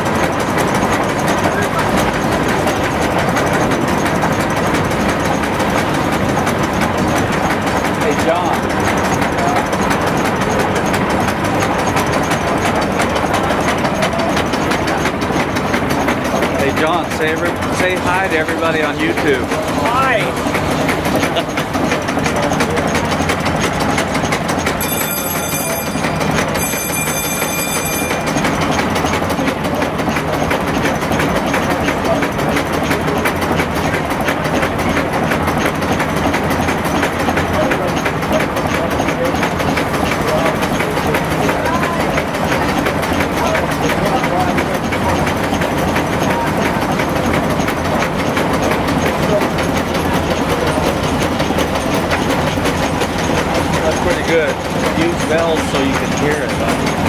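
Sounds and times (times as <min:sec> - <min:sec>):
rapid even clicking: 0:00.0 - 0:57.0
steam engine running: 0:00.0 - 0:57.0.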